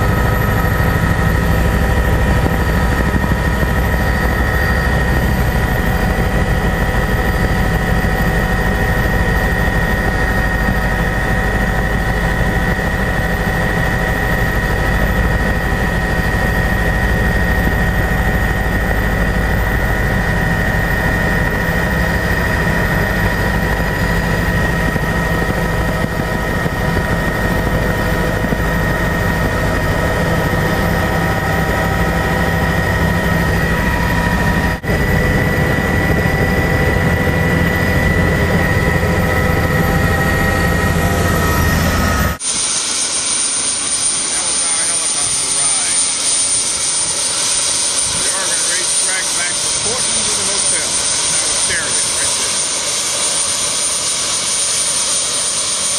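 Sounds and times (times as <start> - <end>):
helicopter rotor and engine drone: 0.0 - 55.9.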